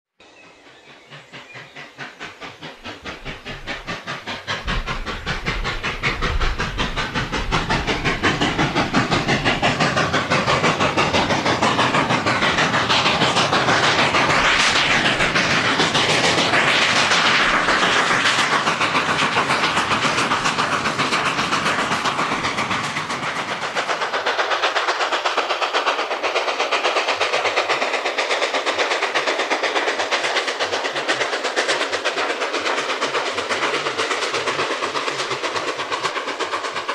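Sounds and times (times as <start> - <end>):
steam locomotive chuffing: 0.2 - 36.9
rail clatter: 1.9 - 36.9.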